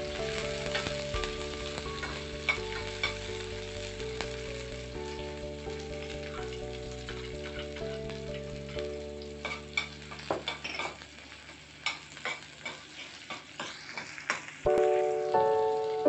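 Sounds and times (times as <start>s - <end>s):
piano background music: 0.0s - 12.3s, 14.7s - 16.0s
light sizzle of frying: 0.0s - 16.0s.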